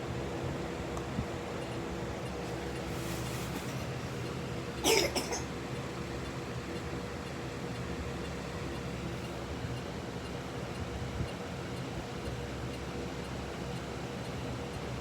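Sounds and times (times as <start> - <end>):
faint constant hum: 0.0 - 15.0.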